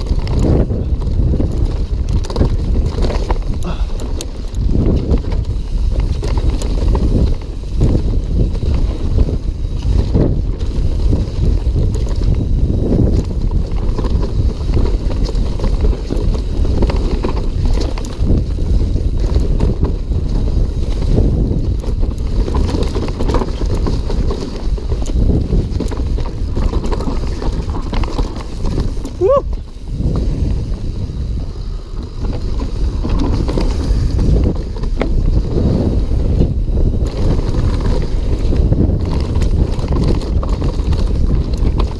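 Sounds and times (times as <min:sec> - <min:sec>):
bike rattling and knocking: 0:00.0 - 0:41.9
tyres running over dirt: 0:00.0 - 0:41.9
wind over microphone: 0:00.0 - 0:41.9.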